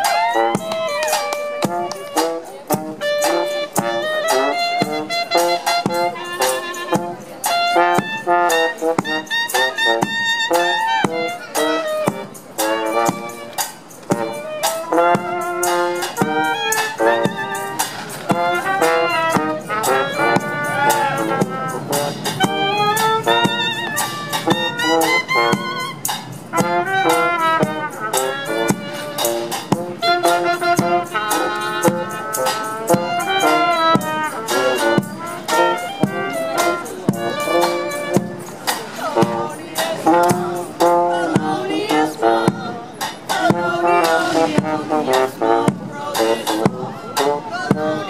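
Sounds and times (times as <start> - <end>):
bass drum beat: 0.0 - 48.0
clarinet: 0.0 - 48.0
low brass horn: 0.0 - 48.0
trumpet: 0.0 - 48.0.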